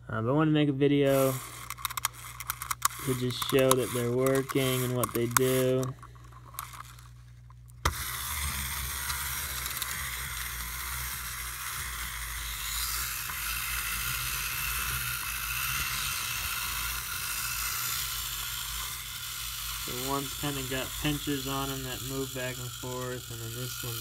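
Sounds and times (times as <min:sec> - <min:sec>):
clockwork motors whirring: 0:01.1 - 0:24.0
toys walking on hard surface: 0:01.1 - 0:24.0.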